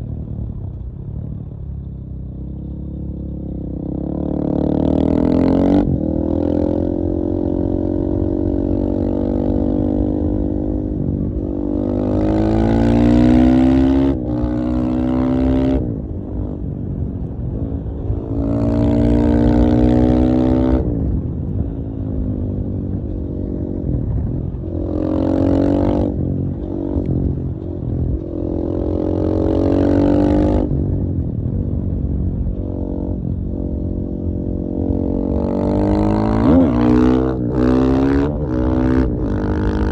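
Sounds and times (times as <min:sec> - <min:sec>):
motorcycle engine revving: 0:01.4 - 0:39.9.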